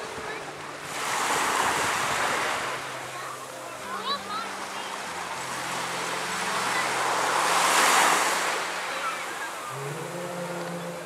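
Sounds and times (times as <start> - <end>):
sea waves washing ashore: 0.0 - 11.0.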